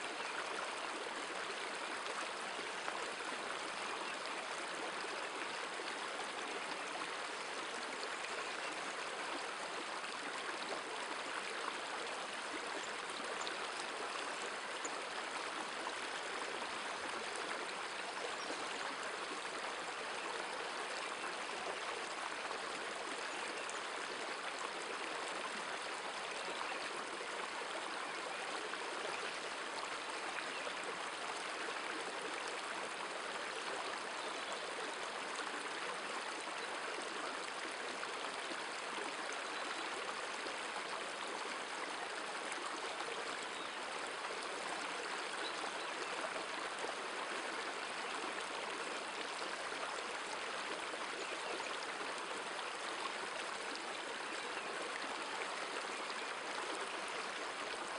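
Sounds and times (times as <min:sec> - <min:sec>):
river water flowing over stones: 0:00.0 - 0:57.9.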